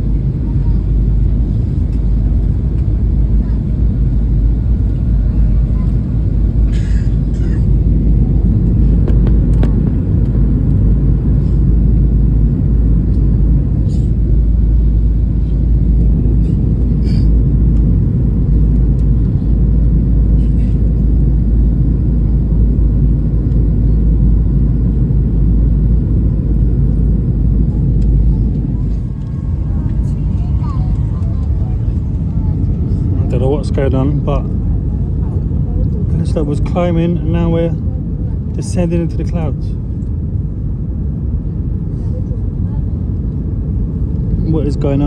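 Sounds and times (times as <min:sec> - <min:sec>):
airliner cabin drone: 0:00.0 - 0:45.0.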